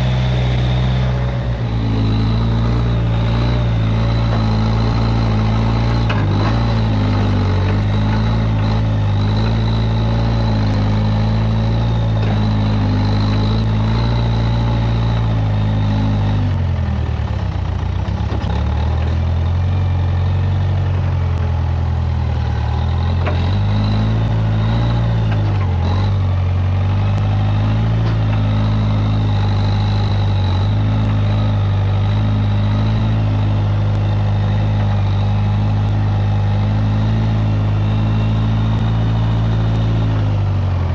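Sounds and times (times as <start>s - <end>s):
backhoe engine running: 0.0s - 40.9s.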